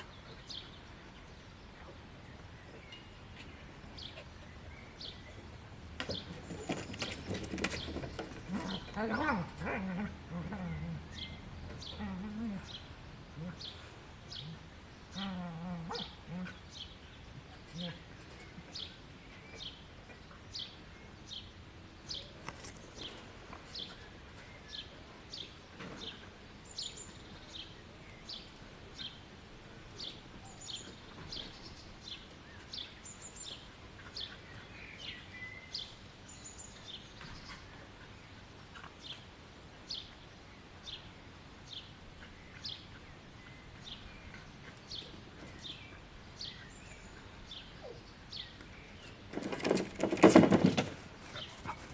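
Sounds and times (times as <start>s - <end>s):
faint outdoor background noise: 0.0s - 51.9s
songbird chirping: 0.0s - 51.9s.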